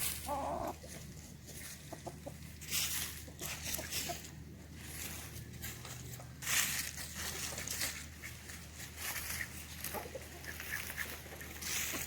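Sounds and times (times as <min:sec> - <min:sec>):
chicken clucking: 0:00.0 - 0:12.0
scratchy rustling and crunching: 0:00.0 - 0:12.0.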